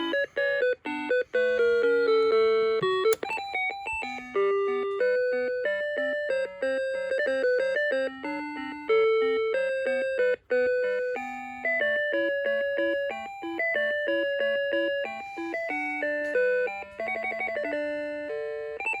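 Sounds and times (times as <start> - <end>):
alarm clock electronic melody: 0.0 - 19.0.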